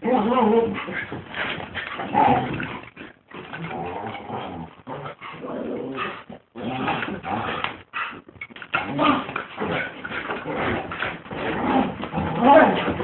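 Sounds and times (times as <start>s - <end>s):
dogs play noises: 0.0s - 13.0s.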